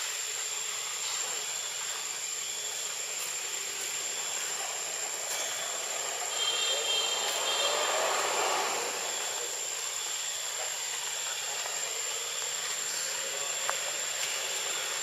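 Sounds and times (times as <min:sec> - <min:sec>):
steady hissing background noise: 0:00.0 - 0:15.0.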